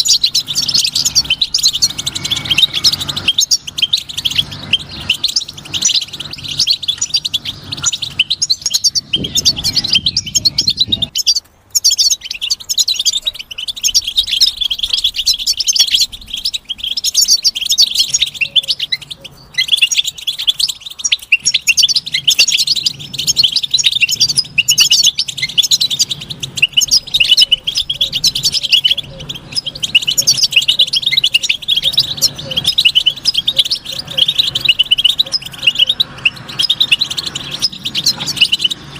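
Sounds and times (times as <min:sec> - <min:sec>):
goldfinch twittering: 0:00.0 - 0:38.9.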